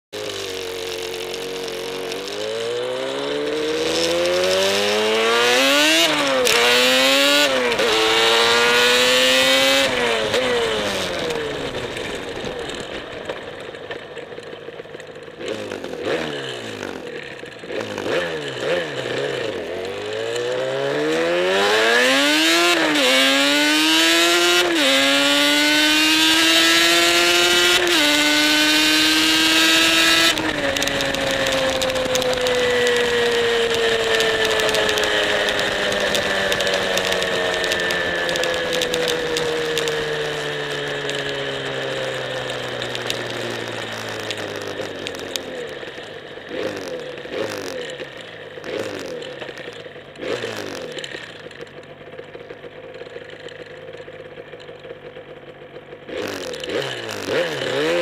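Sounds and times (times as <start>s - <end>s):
two-stroke motorcycle engine revving: 0.2s - 58.0s.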